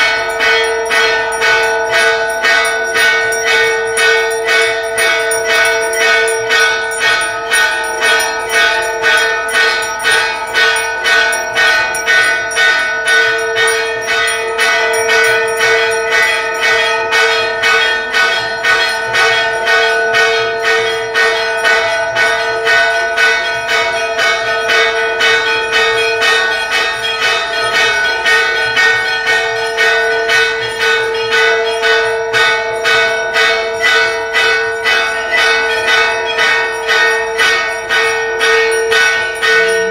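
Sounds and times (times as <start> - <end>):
brass temple bells ringing: 0.0 - 39.9.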